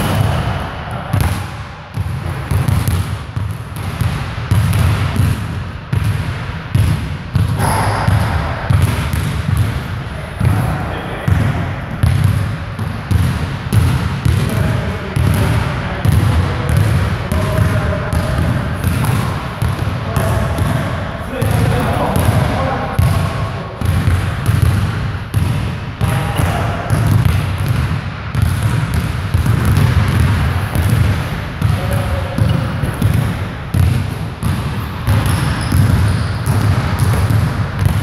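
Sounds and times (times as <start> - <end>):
basketballs bouncing on wooden floor: 0.0 - 38.0.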